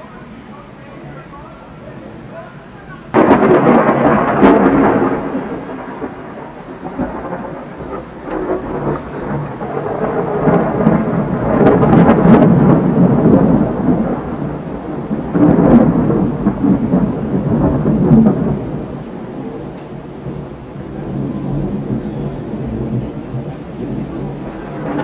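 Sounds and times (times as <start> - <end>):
steady rain: 0.0 - 25.0
thunder rumbling: 0.0 - 25.0.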